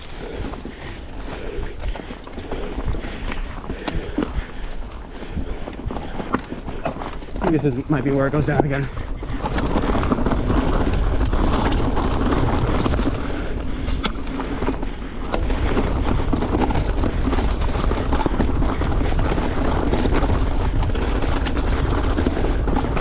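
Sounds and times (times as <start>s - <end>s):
bike rattling and knocking: 0.0s - 23.0s
wind and tyres rumbling: 0.0s - 23.0s.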